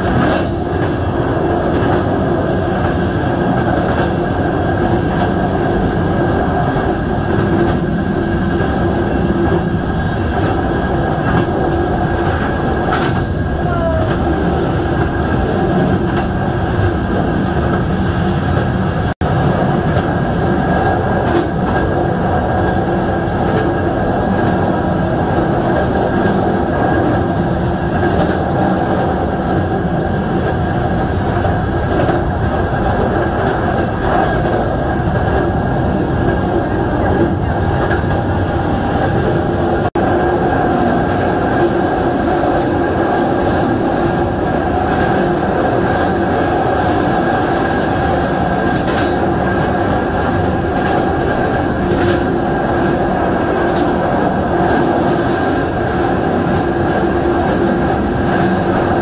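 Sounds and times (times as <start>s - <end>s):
rail clicks: 0.0s - 59.0s
train wheels rumbling on track: 0.0s - 59.0s.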